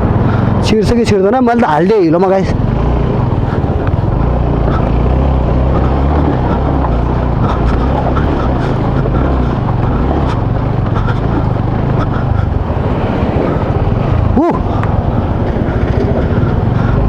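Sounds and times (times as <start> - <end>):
vehicle engine under load: 0.0 - 17.0.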